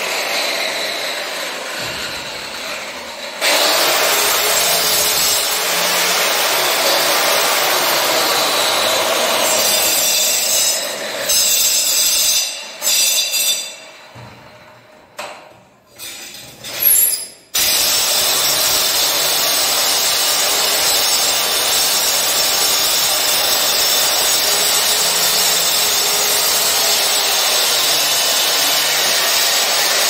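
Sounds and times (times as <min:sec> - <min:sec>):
handheld power tool cutting: 0:00.0 - 0:13.8, 0:16.6 - 0:30.0.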